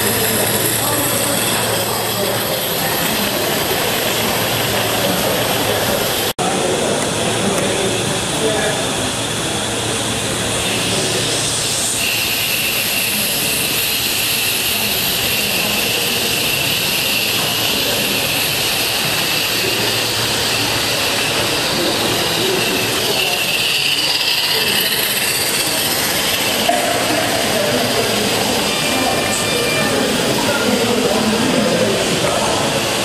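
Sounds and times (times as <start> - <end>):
steam locomotive hissing: 0.0 - 33.0.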